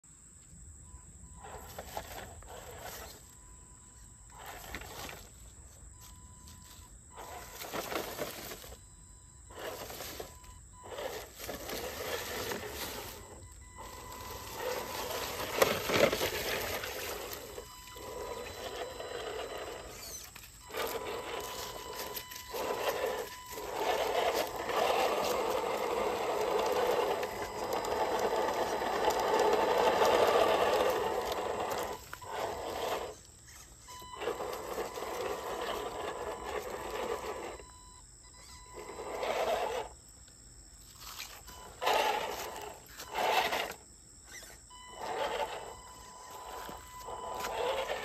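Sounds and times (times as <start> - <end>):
toy car motor whirring: 1.4 - 8.8, 9.4 - 40.0, 40.8 - 48.0.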